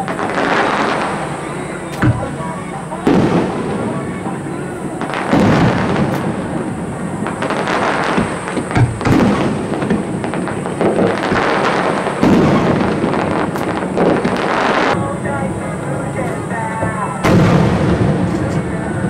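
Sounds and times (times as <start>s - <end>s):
sharp firework bangs: 0.0s - 15.2s, 16.1s - 19.0s
firework shells bursting: 0.0s - 19.0s.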